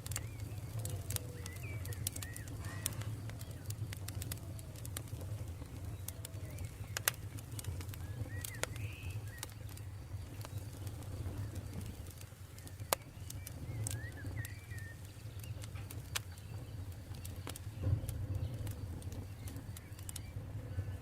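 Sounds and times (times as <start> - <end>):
bird chirping: 0.0 - 4.3, 5.3 - 21.0
campfire crackling and popping: 0.0 - 21.0.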